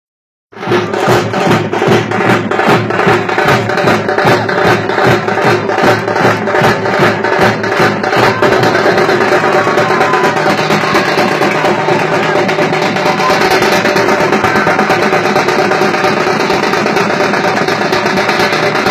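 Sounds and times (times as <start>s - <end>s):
frame drums beaten in rhythm: 0.6s - 18.9s.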